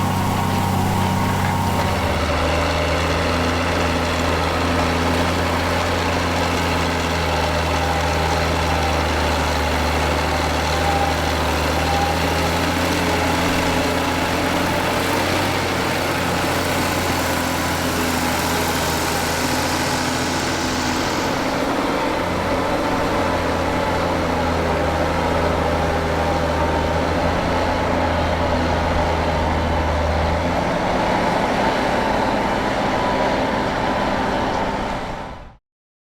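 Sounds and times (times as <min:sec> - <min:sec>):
tractor diesel engine under load: 0:00.0 - 0:35.6.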